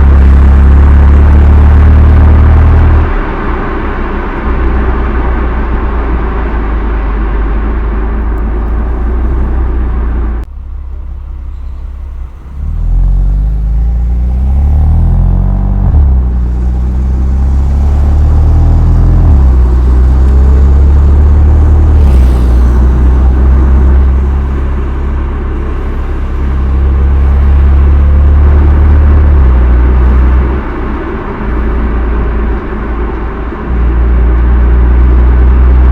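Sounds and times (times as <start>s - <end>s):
car exhaust rumble and revving: 0.0s - 35.9s.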